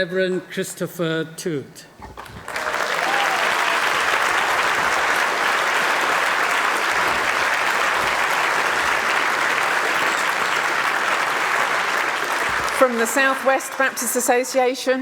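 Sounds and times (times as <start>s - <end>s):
congregation applauding: 2.2s - 14.8s.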